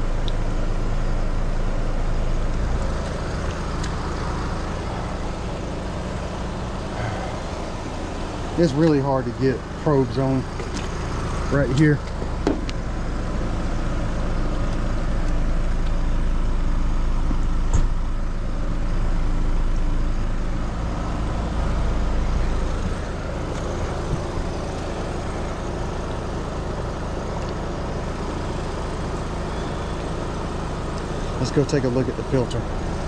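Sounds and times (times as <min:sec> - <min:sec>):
compressor hum: 0:00.0 - 0:33.0
condenser fan rushing: 0:00.0 - 0:33.0.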